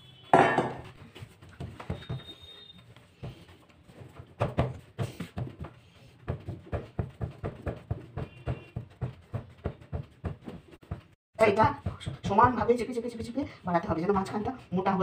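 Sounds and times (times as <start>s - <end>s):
hand patting dough: 0.9s - 14.5s.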